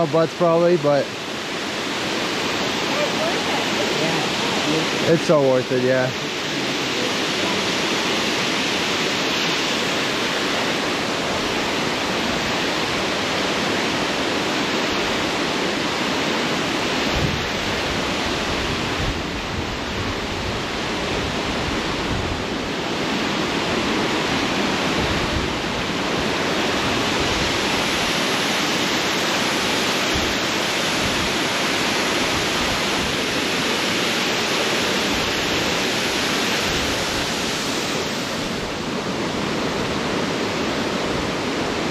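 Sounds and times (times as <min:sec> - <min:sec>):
waterfall roaring: 0:00.0 - 0:41.9.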